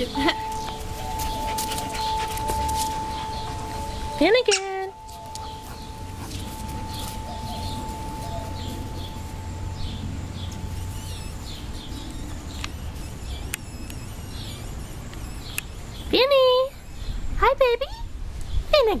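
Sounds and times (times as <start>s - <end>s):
thin steady tone: 0.0s - 18.1s
low steady hum: 0.0s - 18.7s
small birds chirping: 0.0s - 19.0s.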